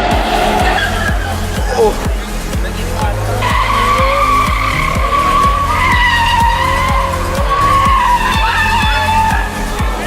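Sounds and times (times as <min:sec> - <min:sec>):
car tyres squealing: 0:00.0 - 0:10.0
music with thumping beat: 0:00.0 - 0:10.0.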